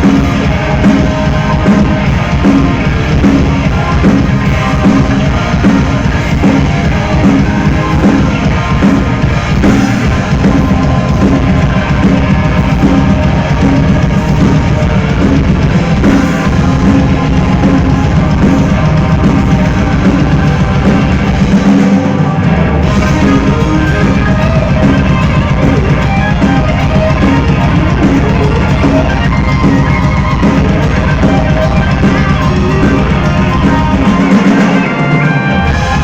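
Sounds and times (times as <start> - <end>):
heavy metal band playing: 0.0 - 36.0.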